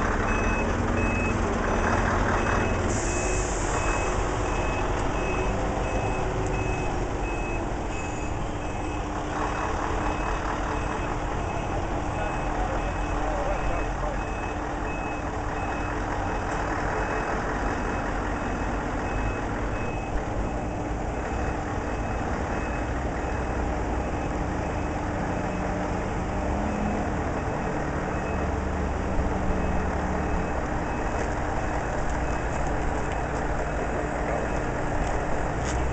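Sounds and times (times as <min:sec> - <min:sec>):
reversing alarm beeping: 0:00.2 - 0:34.8.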